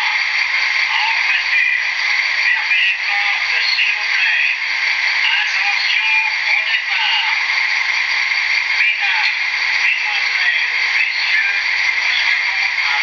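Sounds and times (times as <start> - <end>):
model locomotive engine idling: 0.0 - 13.0.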